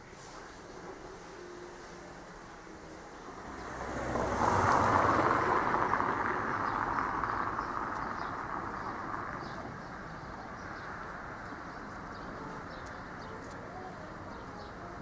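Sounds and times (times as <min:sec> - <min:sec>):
passing vehicle: 0:00.0 - 0:15.0.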